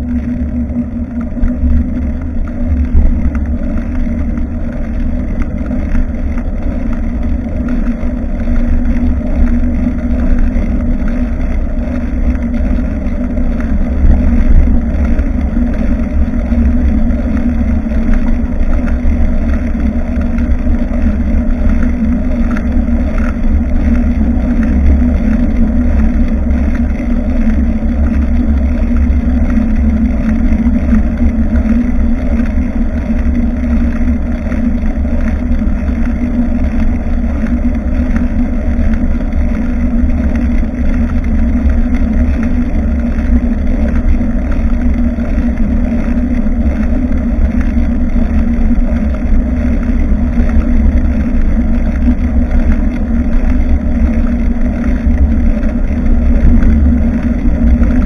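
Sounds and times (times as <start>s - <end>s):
tyre and road noise: 0.0s - 58.0s
wind buffeting microphone: 0.0s - 58.0s.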